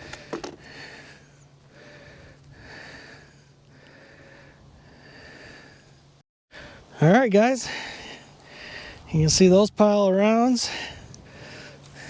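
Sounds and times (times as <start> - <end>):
person breathing: 0.0 - 6.9, 7.6 - 9.1, 10.7 - 12.0.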